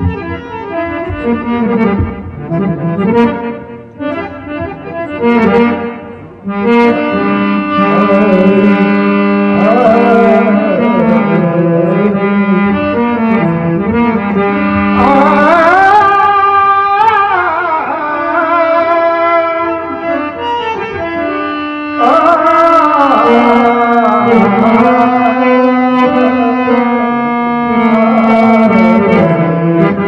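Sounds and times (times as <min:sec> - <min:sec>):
harmonium melody: 0:00.0 - 0:30.0.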